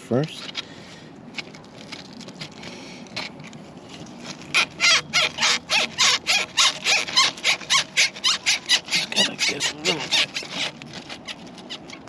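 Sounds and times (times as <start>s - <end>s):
rubbery hose squeaks: 1.4s - 12.0s.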